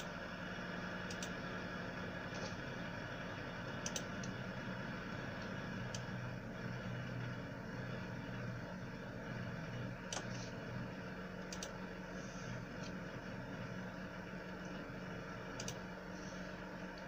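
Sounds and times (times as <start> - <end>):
power supply fan hum: 0.0 - 17.0.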